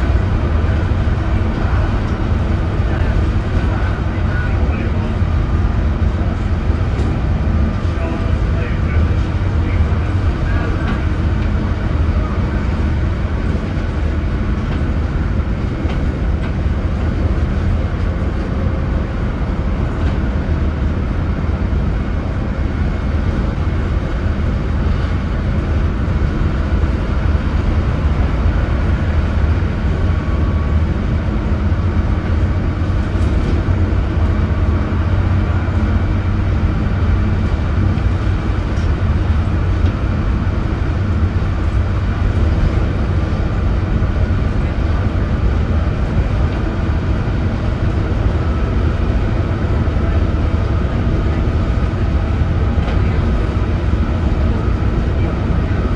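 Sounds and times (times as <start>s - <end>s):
diesel bus engine droning: 0.0s - 55.9s
road noise: 0.0s - 55.9s.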